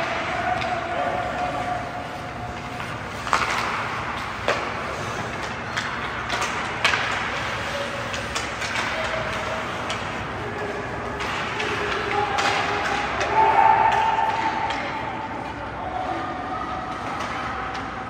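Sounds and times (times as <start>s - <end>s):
hockey sticks and puck knocking: 0.0s - 15.1s
ice rink noise: 0.0s - 18.0s.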